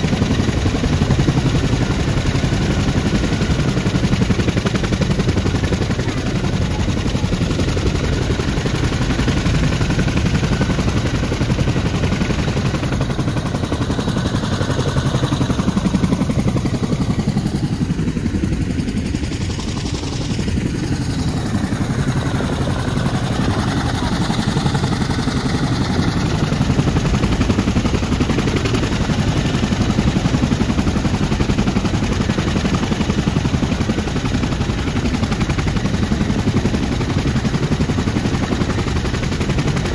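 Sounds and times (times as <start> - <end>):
rapid helicopter blade chop: 0.0 - 39.9.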